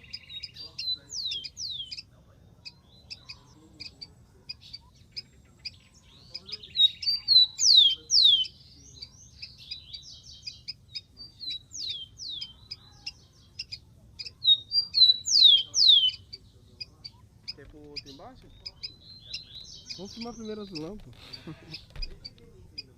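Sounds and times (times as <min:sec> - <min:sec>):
sparrow whistling song: 0:00.0 - 0:22.9.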